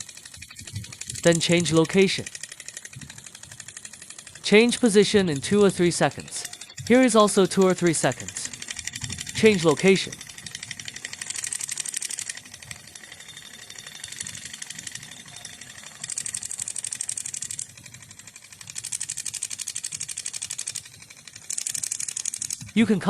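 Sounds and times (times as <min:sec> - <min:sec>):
needling handpiece rattling: 0:00.0 - 0:22.9.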